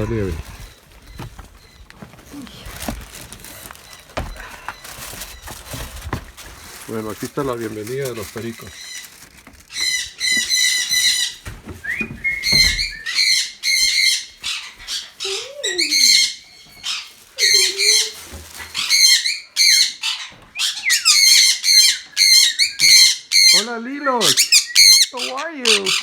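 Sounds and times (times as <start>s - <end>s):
parakeets chattering and squawking: 0.0s - 26.0s.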